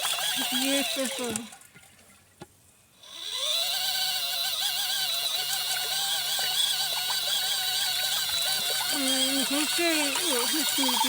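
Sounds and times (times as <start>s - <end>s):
washing machine motor whine: 0.0s - 1.5s, 3.2s - 11.0s.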